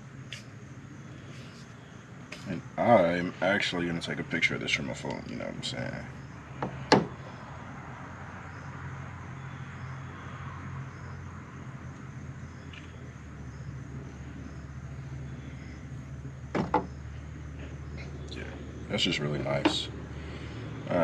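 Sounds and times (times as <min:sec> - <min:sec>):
faint insect chirping: 0:00.0 - 0:21.0
steady low hum: 0:00.0 - 0:21.0.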